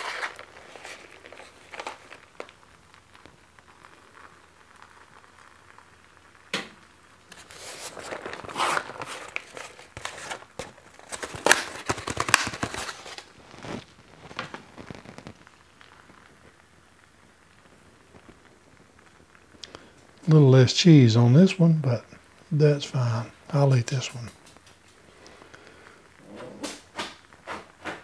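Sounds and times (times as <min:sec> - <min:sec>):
cheese sprinkled rustling: 0:00.0 - 0:28.0.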